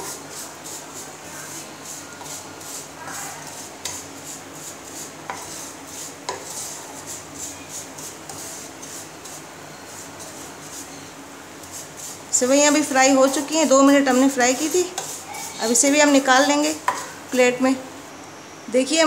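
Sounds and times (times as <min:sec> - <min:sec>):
wooden spatula scraping pan: 0:00.0 - 0:17.2.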